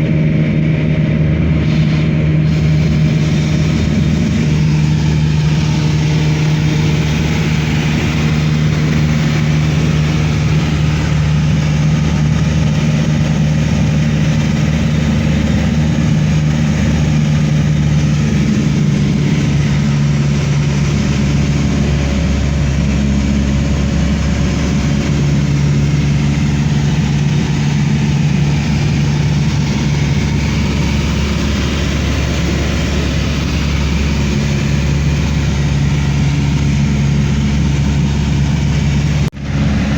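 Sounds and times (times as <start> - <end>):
aircraft cabin engine drone: 0.0 - 39.9.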